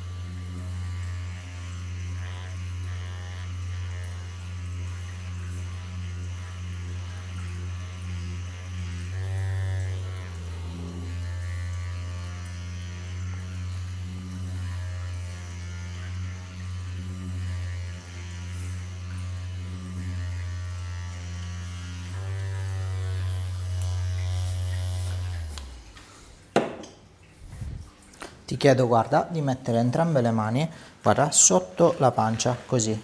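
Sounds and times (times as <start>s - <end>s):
electric massager humming: 0.0s - 33.0s.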